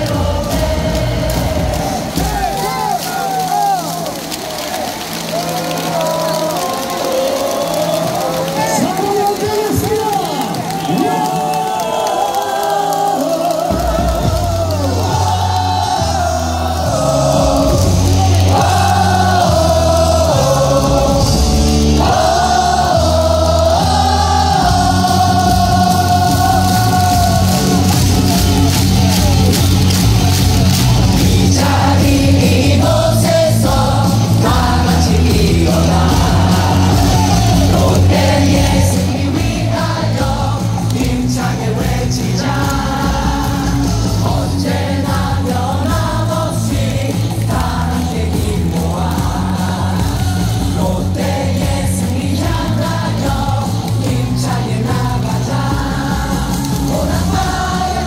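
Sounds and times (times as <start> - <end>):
pa music with heavy bass: 0.0 - 2.8, 13.6 - 58.0
stadium crowd singing: 0.0 - 58.0.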